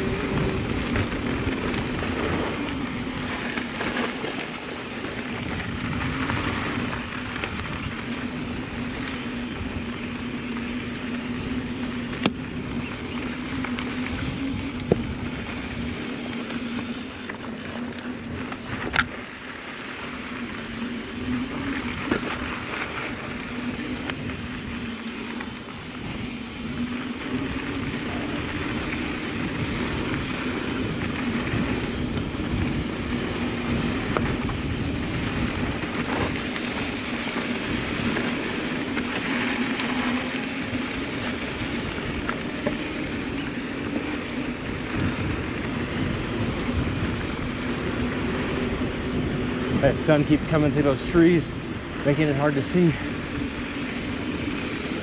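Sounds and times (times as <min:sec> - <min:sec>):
constant low hum: 0:00.0 - 0:55.0
rushing tyre and wind noise: 0:00.0 - 0:55.0.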